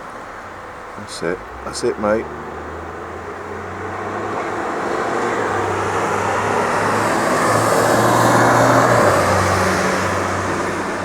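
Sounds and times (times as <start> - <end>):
vehicle passing: 0.9 - 11.0.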